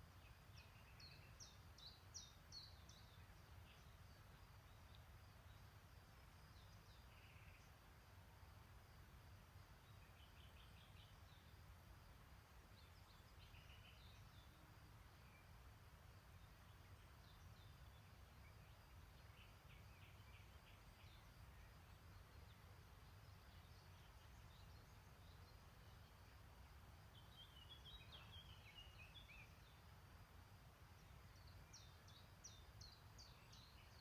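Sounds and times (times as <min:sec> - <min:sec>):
distant birdsong chirps: 0:00.0 - 0:08.2, 0:09.7 - 0:34.0.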